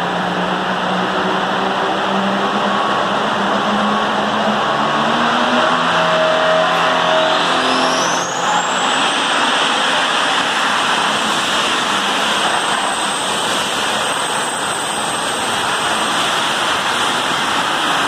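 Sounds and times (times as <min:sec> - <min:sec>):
tractor diesel engine at full throttle: 0:00.0 - 0:18.0.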